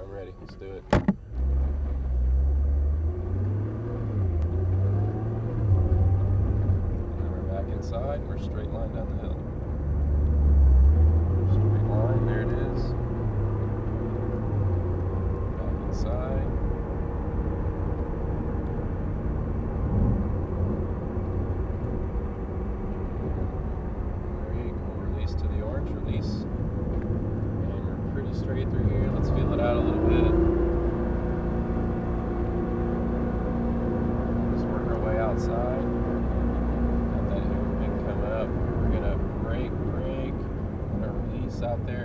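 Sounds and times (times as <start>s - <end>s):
car engine accelerating: 0.0s - 42.0s
road rumble: 0.0s - 42.0s.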